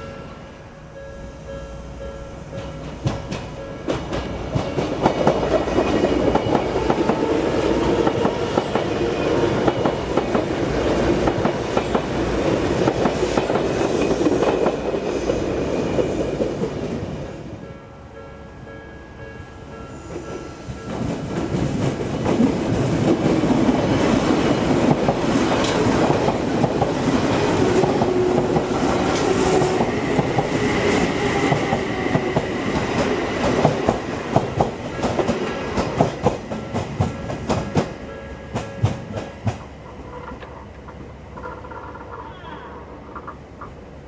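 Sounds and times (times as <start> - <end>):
train wheels rumbling: 0.0 - 17.8, 20.0 - 44.0
wheels clickety-clack over rail joints: 2.5 - 17.2, 20.1 - 42.5.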